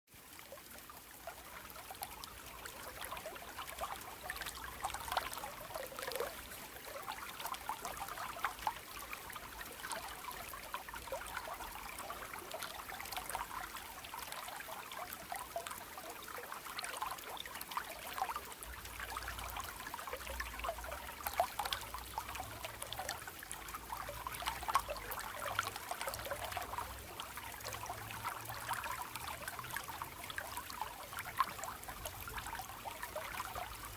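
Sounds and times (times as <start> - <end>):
stream babbling over stones: 0.1 - 33.9.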